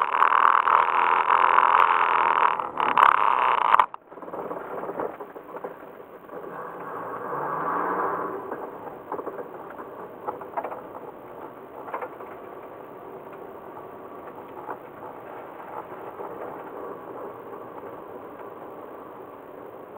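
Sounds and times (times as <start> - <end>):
small clicks and rattles: 0.0 - 7.0, 8.4 - 19.9.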